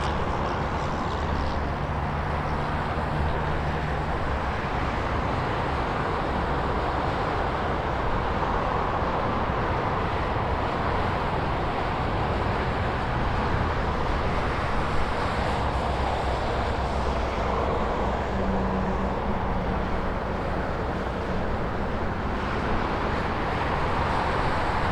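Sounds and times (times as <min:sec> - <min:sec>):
highway traffic: 0:00.0 - 0:24.9.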